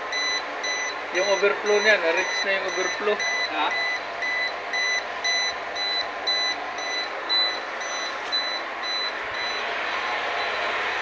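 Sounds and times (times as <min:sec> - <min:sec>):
electronic buzzer beeping: 0:00.1 - 0:11.0.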